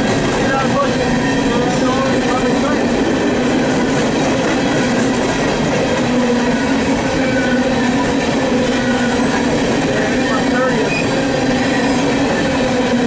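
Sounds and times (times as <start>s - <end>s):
freight train wheels rumbling on rail: 0.0s - 13.0s.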